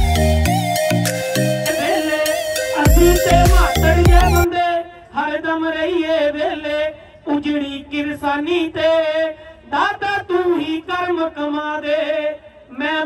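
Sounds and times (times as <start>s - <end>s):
person chanting: 1.6s - 13.0s.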